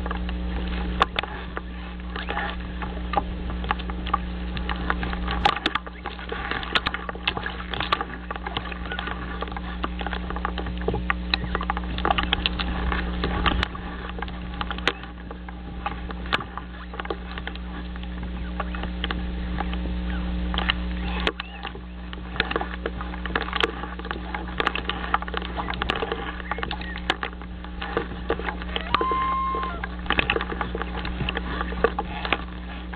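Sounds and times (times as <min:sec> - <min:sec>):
dry reeds crackling and rustling: 0:00.0 - 0:32.9
steady low hum: 0:00.0 - 0:32.9.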